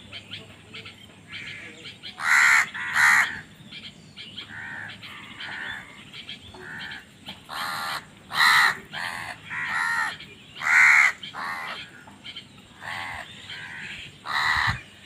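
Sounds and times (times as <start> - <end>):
crows cawing: 1.3 - 3.6, 4.4 - 15.0.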